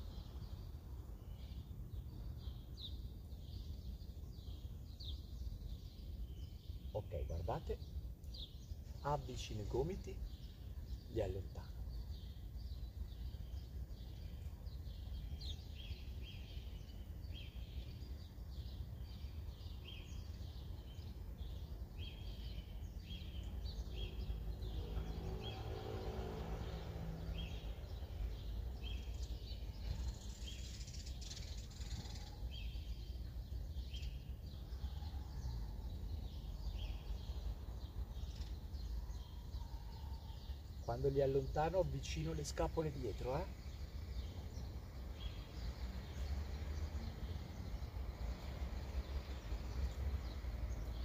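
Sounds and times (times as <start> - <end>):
small bird chirping: 0.0 - 25.9, 26.8 - 51.0.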